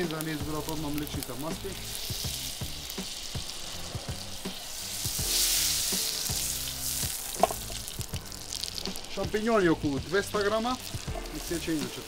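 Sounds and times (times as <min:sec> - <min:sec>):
butter sizzling in frying pan: 0:00.0 - 0:12.0.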